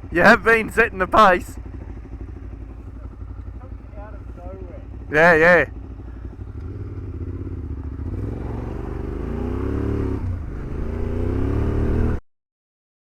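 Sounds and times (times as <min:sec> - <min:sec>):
dirt bike engine accelerating: 0:00.0 - 0:12.2.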